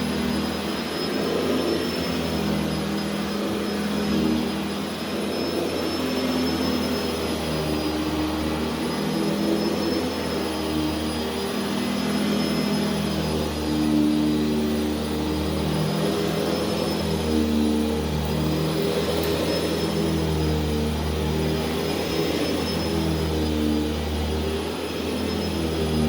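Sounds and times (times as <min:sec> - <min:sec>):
carpet cleaning machine motor: 0:00.0 - 0:26.0.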